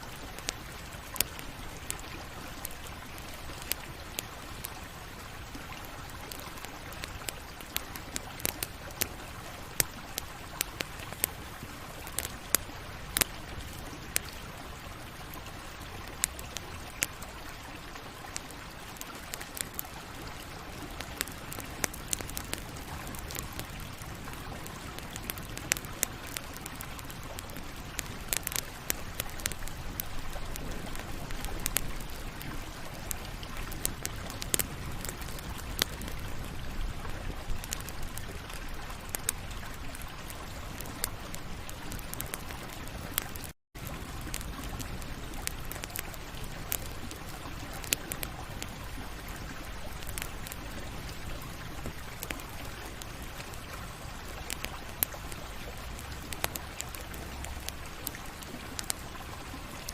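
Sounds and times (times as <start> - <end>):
burning wood crackling and popping: 0.0 - 59.9.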